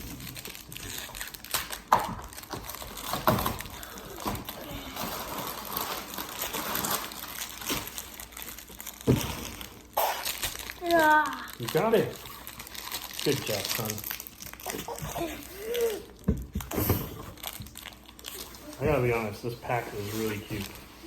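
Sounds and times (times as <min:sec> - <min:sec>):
plastic wrapper crinkling: 0:00.0 - 0:21.0.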